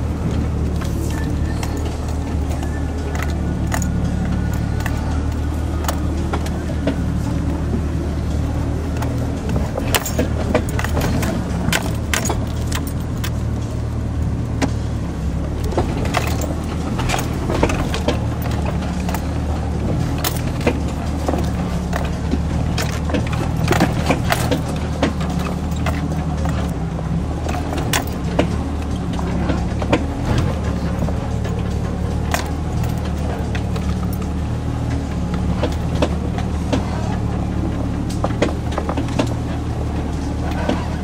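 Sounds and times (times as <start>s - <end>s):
engine running at low revs: 0.0s - 41.0s
vehicle rattling and knocking: 0.0s - 41.0s.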